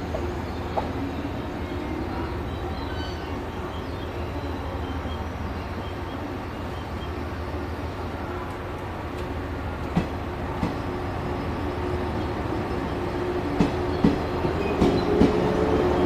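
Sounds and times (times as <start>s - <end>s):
electric train pulling in: 0.0s - 16.0s.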